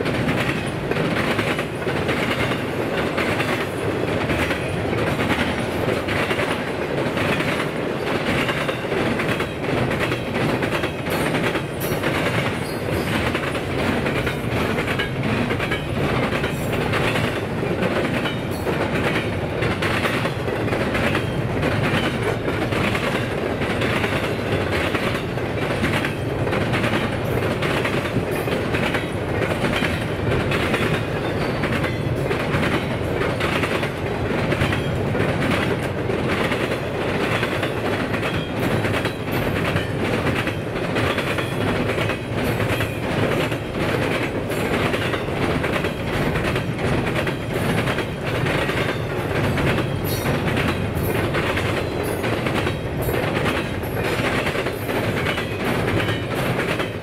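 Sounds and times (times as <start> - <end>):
railway cars rumbling past: 0.0 - 57.0
wheels clicking over rail joints: 0.0 - 57.0.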